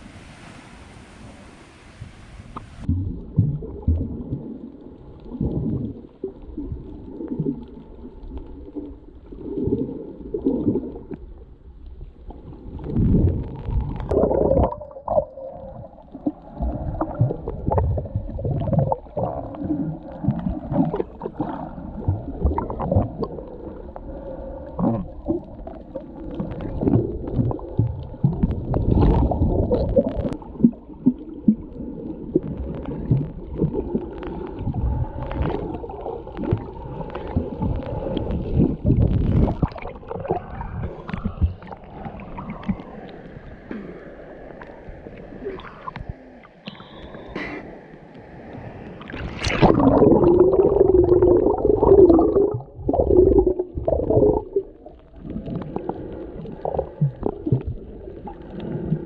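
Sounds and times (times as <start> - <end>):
muffled underwater gurgling: 2.4 - 59.0.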